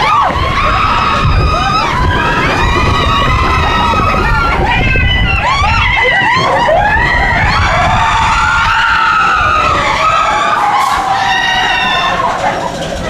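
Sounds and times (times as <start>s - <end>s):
roller coaster rumbling: 0.0s - 13.0s
wheels squealing on track: 0.0s - 13.0s.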